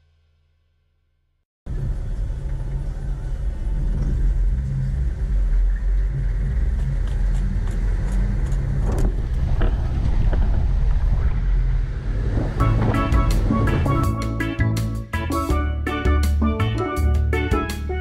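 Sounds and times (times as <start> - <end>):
vehicle engine rumbling: 1.7 - 17.5.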